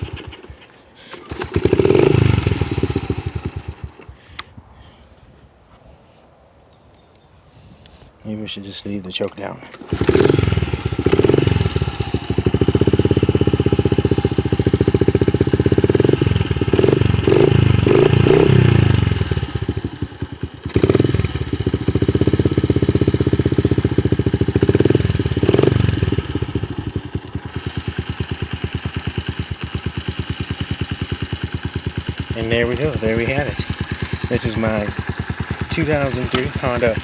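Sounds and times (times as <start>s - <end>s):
small motorcycle engine revving: 0.0s - 4.1s, 9.8s - 37.0s
motorcycle engine idling: 0.0s - 4.2s, 9.8s - 37.0s.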